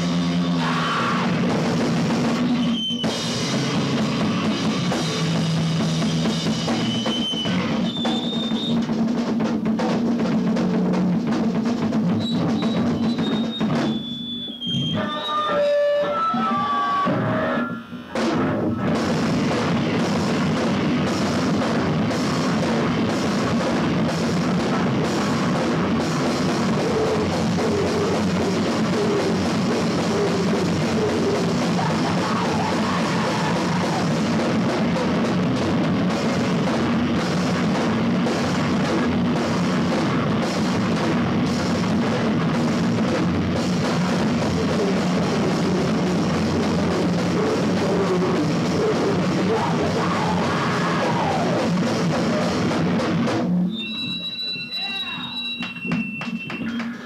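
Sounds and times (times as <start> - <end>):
heavy rock band playing: 0.0 - 57.0.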